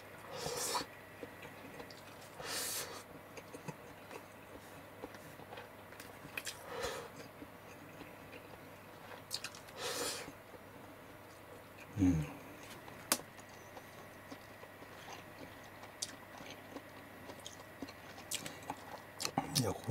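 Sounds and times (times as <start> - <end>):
person chewing: 0.4 - 2.4, 3.4 - 10.3, 12.6 - 19.8.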